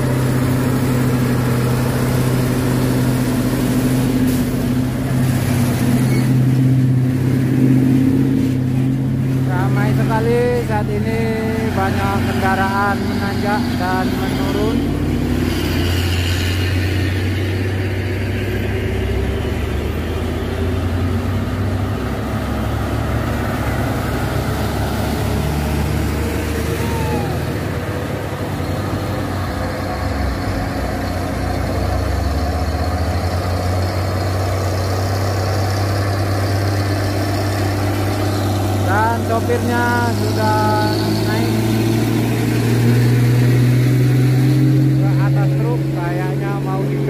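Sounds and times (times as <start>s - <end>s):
diesel truck engines idling: 0.0s - 47.0s.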